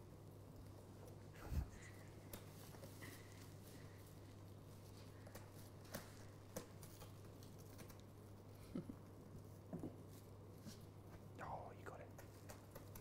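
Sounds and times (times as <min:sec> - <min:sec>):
kittens tapping and scuffling: 0:00.4 - 0:11.4, 0:12.0 - 0:13.0.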